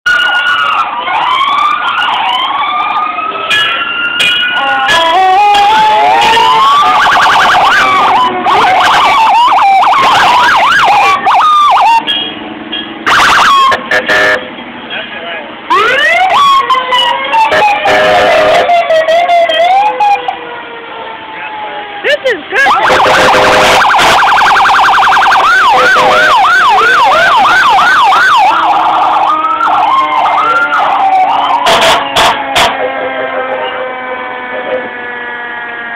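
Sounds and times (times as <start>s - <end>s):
emergency vehicle sirens: 0.0s - 35.9s.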